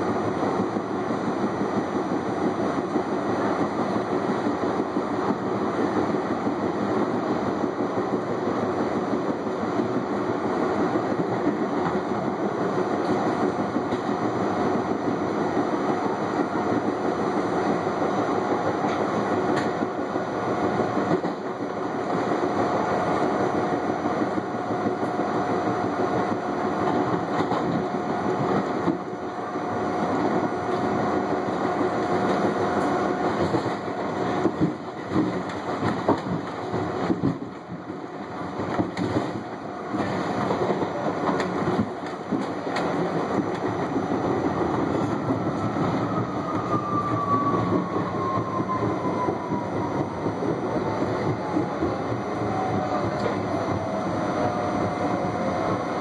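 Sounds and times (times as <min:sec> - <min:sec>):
subway car rolling rumble: 0:00.0 - 0:56.0.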